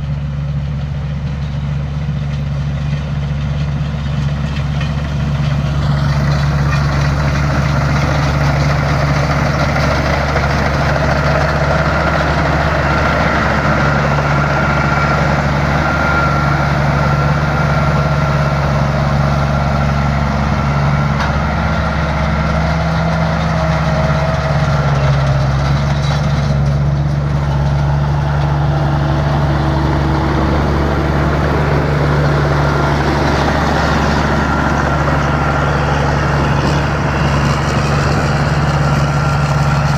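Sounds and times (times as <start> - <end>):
diesel engine running loudly: 0.0 - 39.9.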